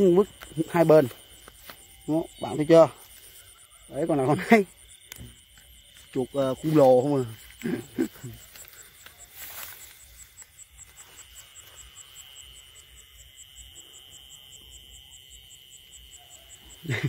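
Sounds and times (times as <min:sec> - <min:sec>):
crickets chirping: 0:00.0 - 0:17.0
steady high insect trill: 0:00.0 - 0:17.0.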